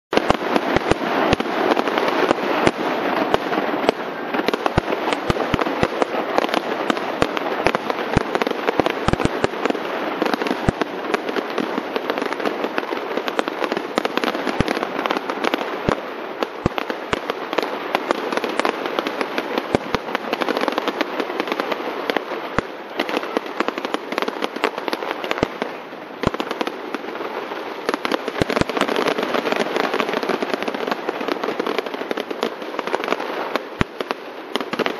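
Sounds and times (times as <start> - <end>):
firework shells exploding: 0.1 - 34.9
rattle of small firework bursts: 0.1 - 34.9.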